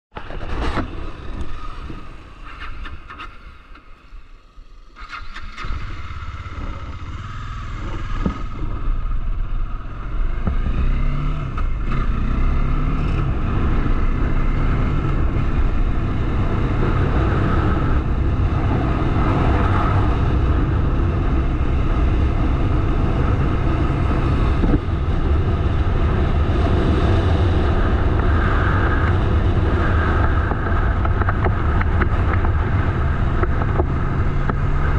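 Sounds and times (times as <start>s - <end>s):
motorcycle engine accelerating: 4.4s - 34.9s
wind rumble on microphone: 5.6s - 34.9s.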